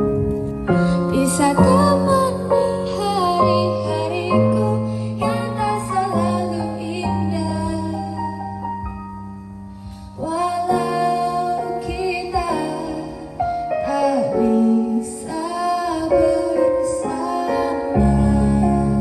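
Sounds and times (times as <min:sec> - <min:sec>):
piano accompaniment: 0:00.0 - 0:19.0
woman singing a slow ballad: 0:00.7 - 0:08.4, 0:09.8 - 0:19.0.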